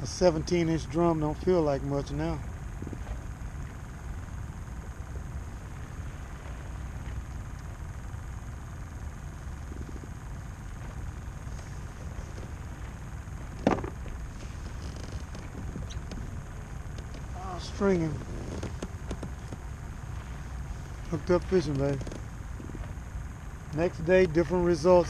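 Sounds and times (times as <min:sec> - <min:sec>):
wind buffeting microphone: 0:02.2 - 0:24.2.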